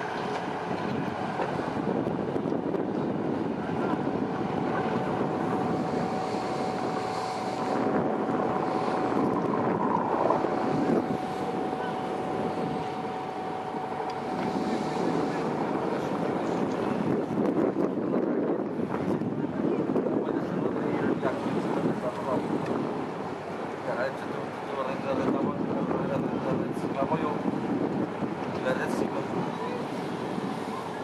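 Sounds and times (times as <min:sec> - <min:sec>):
boat engine running: 0:00.0 - 0:26.5
wind buffeting microphone: 0:00.0 - 0:31.0.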